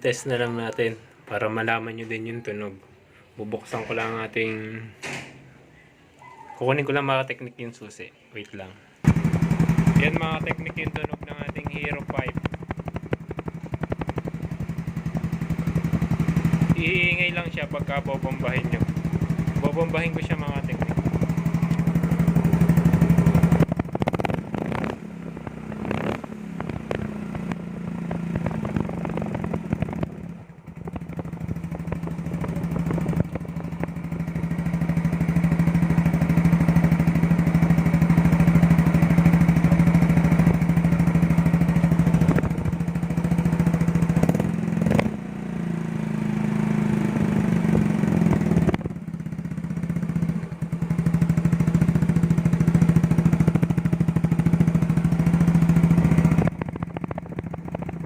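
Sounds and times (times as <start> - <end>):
scooter engine revving: 9.0 - 58.0.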